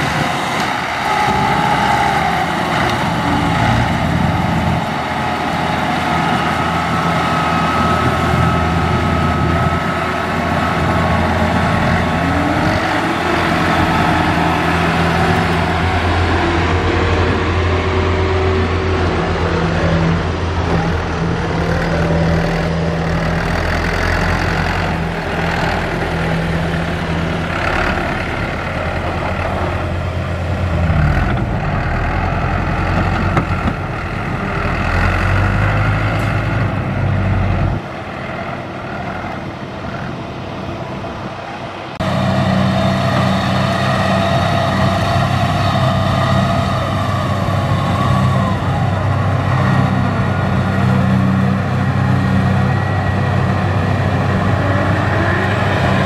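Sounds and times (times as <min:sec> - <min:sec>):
combine harvester engine running: 0:00.0 - 0:56.0
tractor engine labouring: 0:00.0 - 0:56.0.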